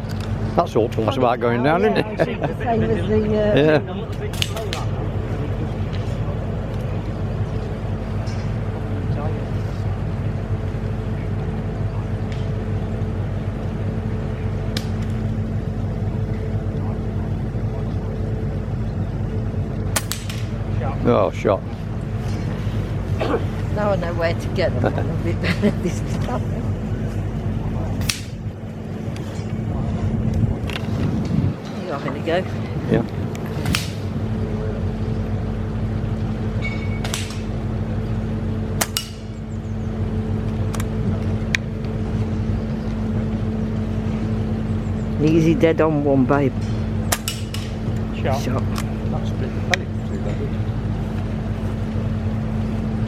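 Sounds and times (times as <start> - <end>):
low mechanical hum: 0.0 - 53.0.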